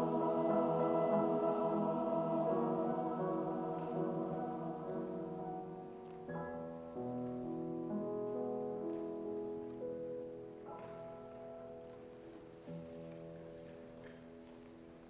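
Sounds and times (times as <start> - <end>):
soft slow music of held chords: 0.0 - 15.0.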